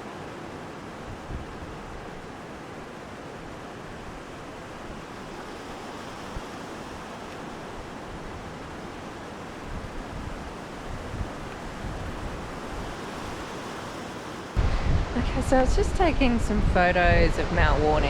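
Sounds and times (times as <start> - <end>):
rushing wind: 0.0 - 18.0
wind buffeting on microphone: 0.0 - 18.0.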